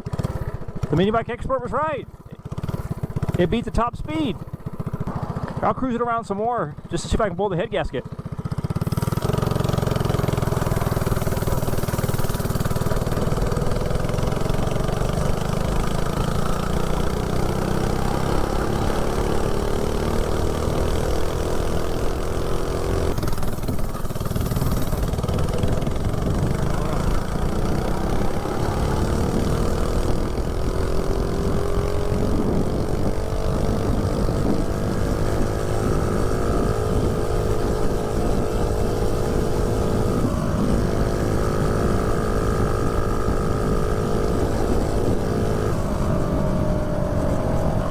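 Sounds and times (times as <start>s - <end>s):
mini bike engine under load: 0.0s - 47.9s.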